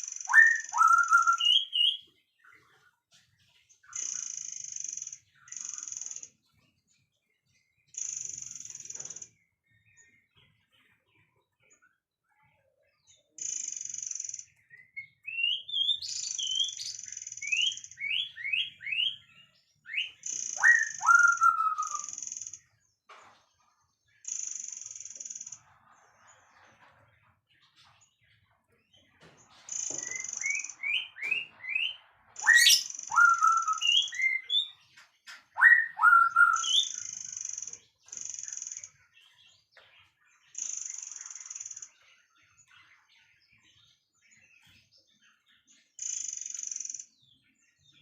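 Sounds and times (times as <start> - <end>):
songbird singing: 0.0 - 25.7, 26.4 - 48.0.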